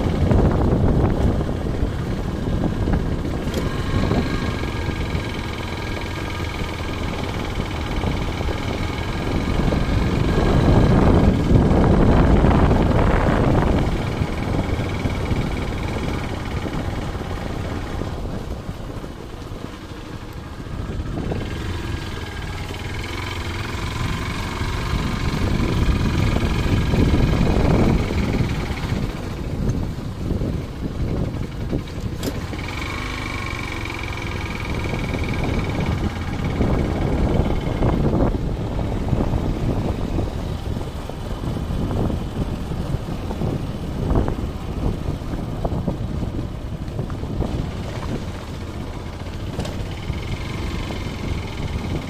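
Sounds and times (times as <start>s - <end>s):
motorcycle engine running: 0.0s - 52.0s
wind buffeting microphone: 0.0s - 52.0s.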